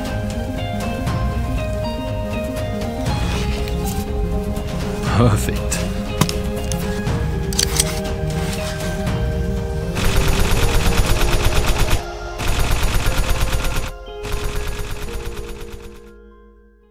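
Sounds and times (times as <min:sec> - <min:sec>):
electronic music with drum hits: 0:00.0 - 0:16.1.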